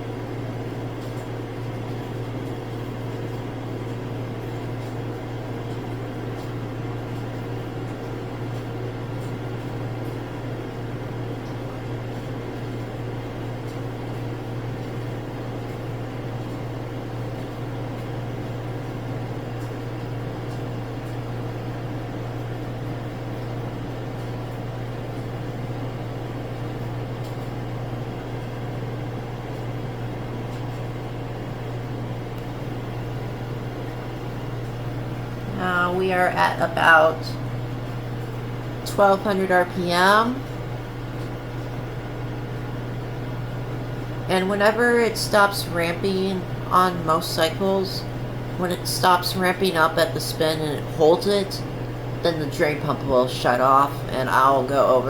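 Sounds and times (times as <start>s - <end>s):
drain pump running: 0.0s - 55.0s
washing machine spinning: 0.0s - 55.0s.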